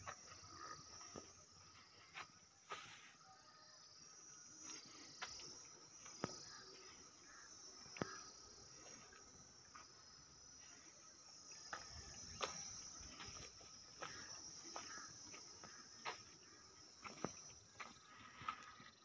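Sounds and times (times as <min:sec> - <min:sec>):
insect chirring: 0:00.0 - 0:02.5, 0:03.5 - 0:19.0.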